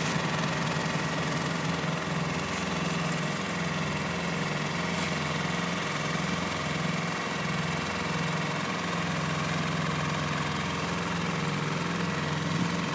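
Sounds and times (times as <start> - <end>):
heavy machinery engine running: 0.0 - 12.9.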